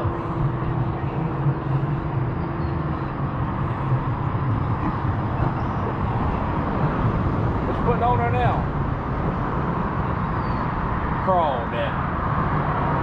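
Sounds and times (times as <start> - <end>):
road traffic rumbling: 0.0 - 13.0.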